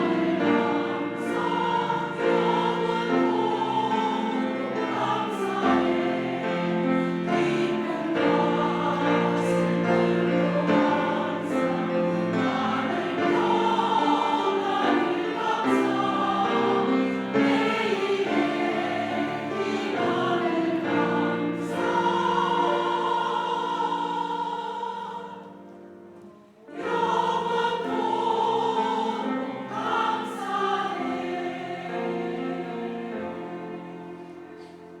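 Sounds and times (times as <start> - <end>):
choir singing sustained chords: 0.0 - 35.0.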